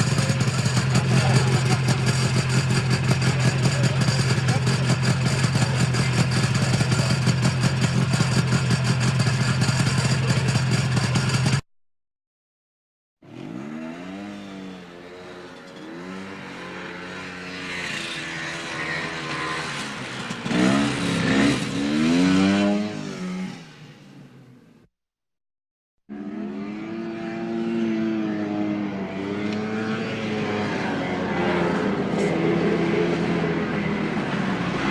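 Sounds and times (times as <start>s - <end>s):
atv engine revving: 0.0s - 11.6s, 13.2s - 23.8s, 26.1s - 34.9s.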